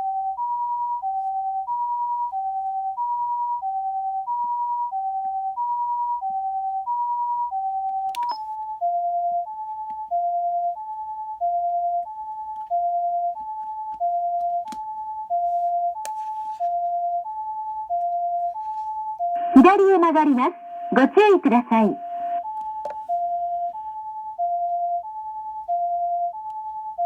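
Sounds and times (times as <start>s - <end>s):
two-tone ambulance siren: 0.0s - 27.0s.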